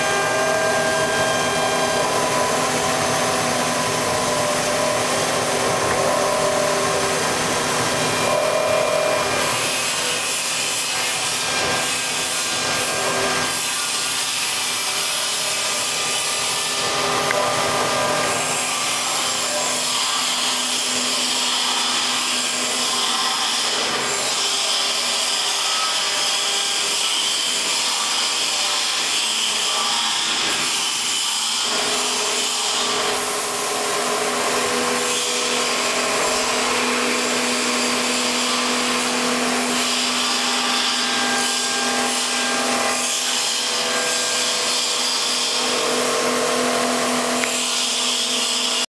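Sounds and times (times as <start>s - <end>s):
cnc router motor whine: 0.0s - 48.8s
cutter machining workpiece: 0.0s - 48.9s.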